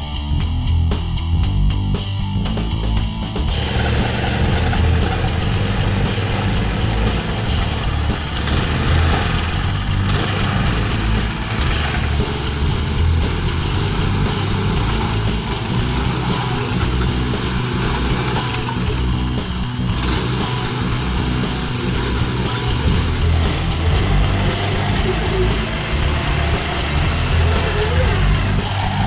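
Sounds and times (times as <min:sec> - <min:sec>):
small engine running: 0:02.4 - 0:29.0.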